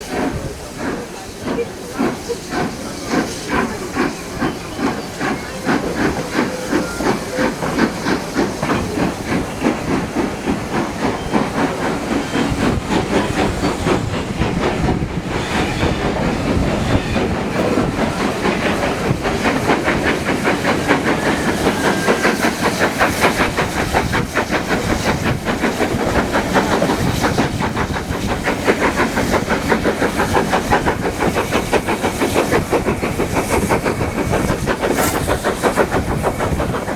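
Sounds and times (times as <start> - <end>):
steam hissing: 0.0 - 36.9
steam locomotive exhaust beats: 0.0 - 36.9.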